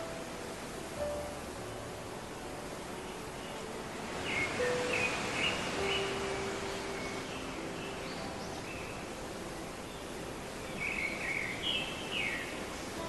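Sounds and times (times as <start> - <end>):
steady hiss: 0.0 - 13.0
small birds chirping: 2.2 - 13.0.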